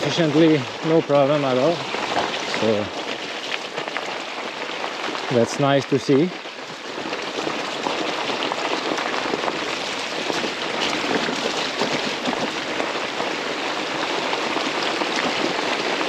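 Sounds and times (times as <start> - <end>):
bike tyres rolling over gravel: 0.0 - 16.0.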